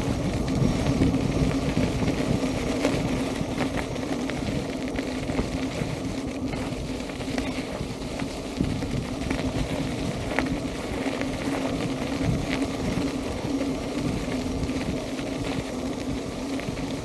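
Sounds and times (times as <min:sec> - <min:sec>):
electric motor hum: 0:00.0 - 0:17.0
faint ticks of grit: 0:00.0 - 0:17.0
tyre rumbling on gravel: 0:00.0 - 0:17.0
wind: 0:00.0 - 0:17.0.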